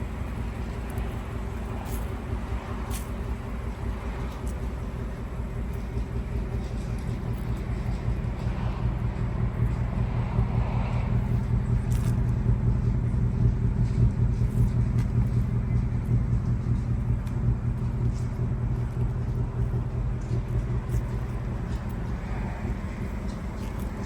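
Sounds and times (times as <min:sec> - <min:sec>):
car engine idling rumble: 0:00.0 - 0:24.0.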